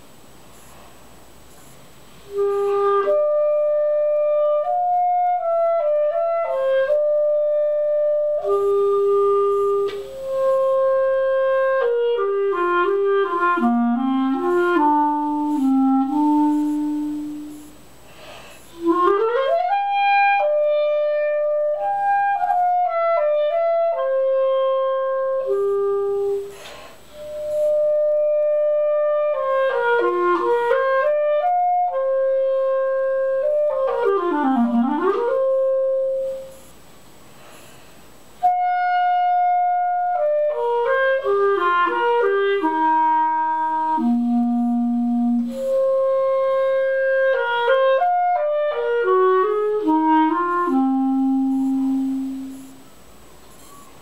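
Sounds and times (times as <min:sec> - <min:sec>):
solo clarinet melody: 0:01.5 - 0:36.9, 0:38.4 - 0:54.0.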